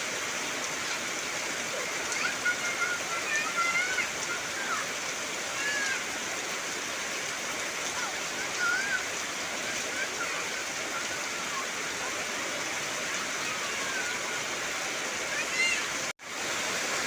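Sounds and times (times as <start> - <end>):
heavy rain on trees: 0.0 - 17.0.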